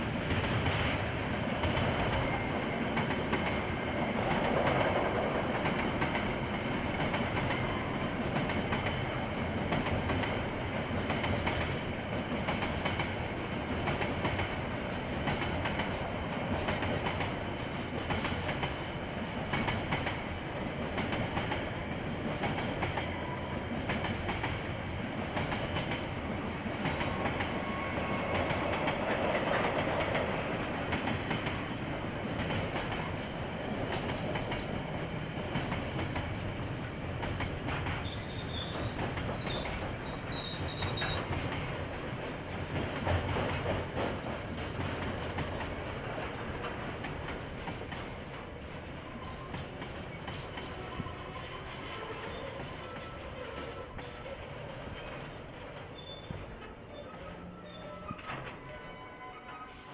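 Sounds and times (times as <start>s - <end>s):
train rolling past: 0.0s - 59.9s.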